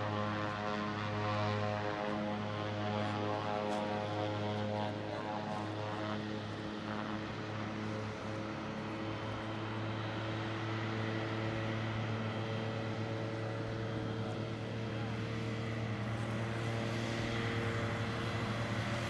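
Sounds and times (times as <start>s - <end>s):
propeller airplane engines droning: 0.0s - 19.0s.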